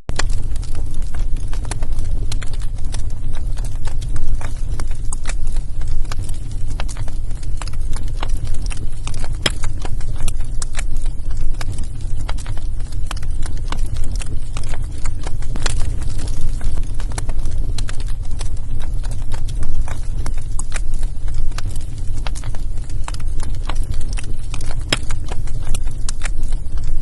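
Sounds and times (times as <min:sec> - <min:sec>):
logs crackling and popping: 0:00.1 - 0:27.0
low rumble of flames: 0:00.1 - 0:27.0.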